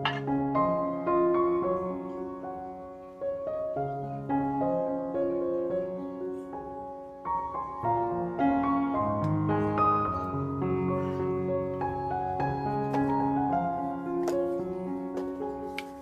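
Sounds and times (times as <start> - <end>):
soft piano melody: 0.0 - 16.0.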